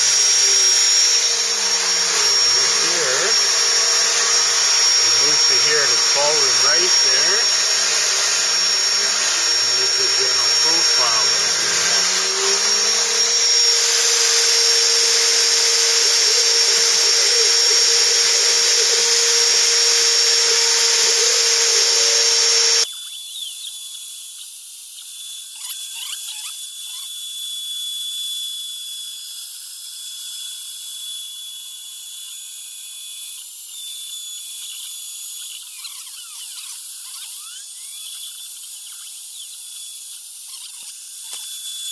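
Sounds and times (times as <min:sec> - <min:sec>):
wood router cutting with whine: 0:00.0 - 0:41.9.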